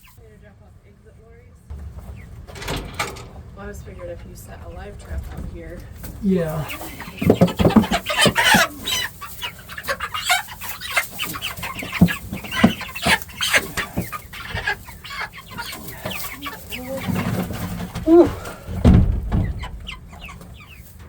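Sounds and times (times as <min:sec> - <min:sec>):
chickens clucking and peeping: 0:00.0 - 0:21.0.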